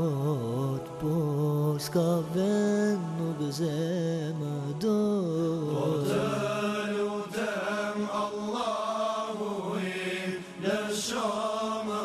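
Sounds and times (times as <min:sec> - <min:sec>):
devotional song sung: 0:00.0 - 0:12.0.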